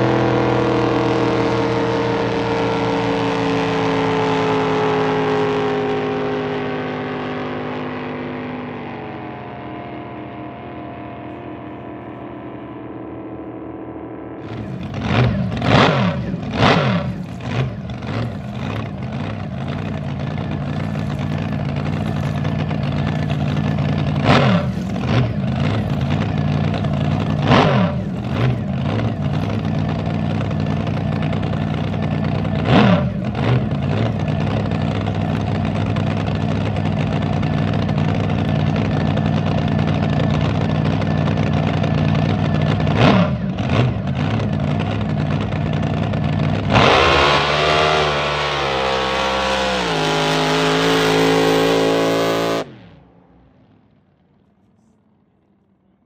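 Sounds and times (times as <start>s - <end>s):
boat engines idling: 0.0s - 47.2s
engine throttle blips: 0.0s - 56.0s.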